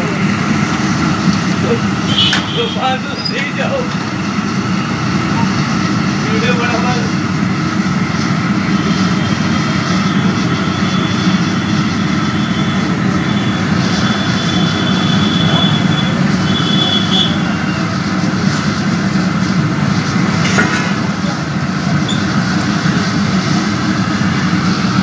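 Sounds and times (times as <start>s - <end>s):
deep-frying sizzle and bubbling: 0.0s - 25.0s
low rumble of fire: 0.0s - 25.0s.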